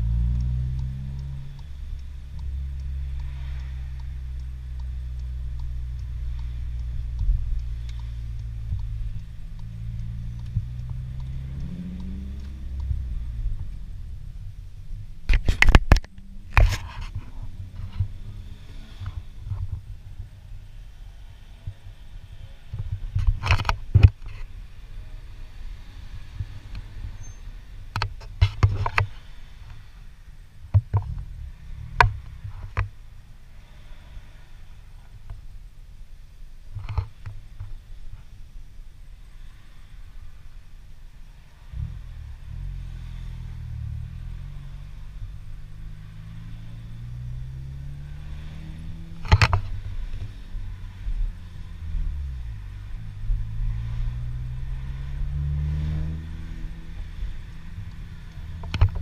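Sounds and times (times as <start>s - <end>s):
faint regular ticking: 0.0s - 55.7s, 56.3s - 59.0s
car engine drone in cabin: 0.0s - 59.0s.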